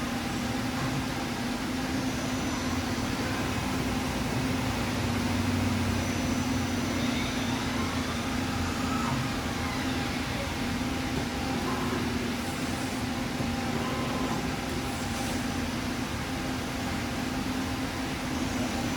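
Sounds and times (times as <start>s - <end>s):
shop machinery humming: 0.0s - 18.9s.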